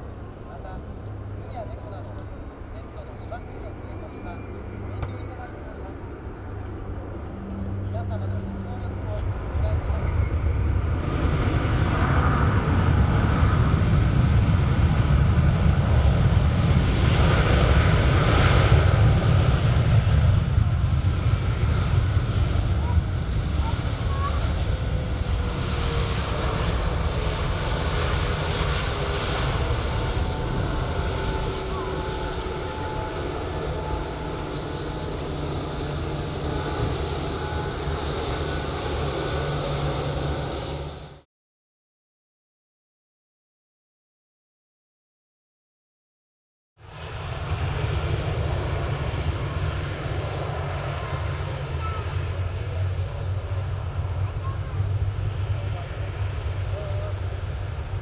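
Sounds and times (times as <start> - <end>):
jet airliner engines rumbling: 0.0 - 41.3, 46.8 - 58.0.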